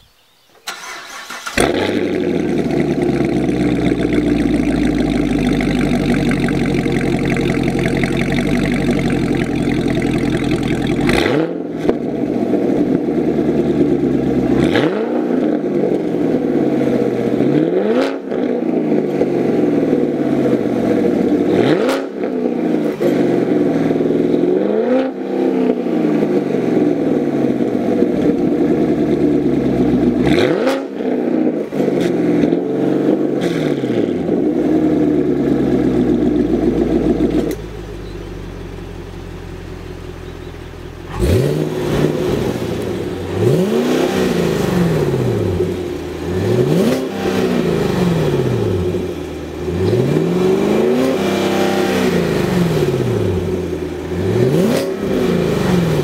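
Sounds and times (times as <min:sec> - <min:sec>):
car engine revving: 0:00.6 - 0:40.3, 0:40.9 - 0:56.0.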